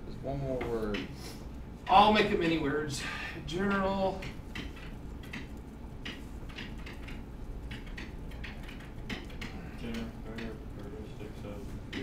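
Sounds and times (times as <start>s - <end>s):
steady low hum: 0.0s - 12.0s
stylus tapping and scratching: 0.5s - 2.6s, 3.4s - 12.0s.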